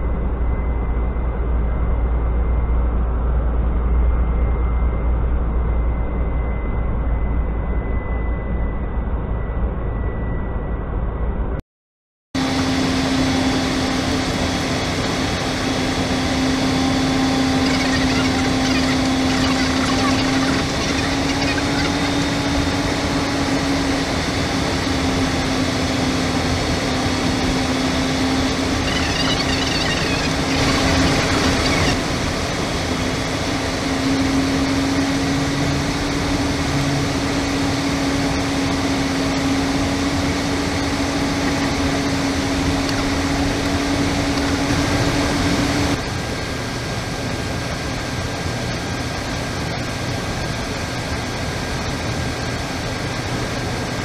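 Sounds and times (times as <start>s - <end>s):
constant low hum: 0.0s - 11.6s, 12.4s - 54.0s.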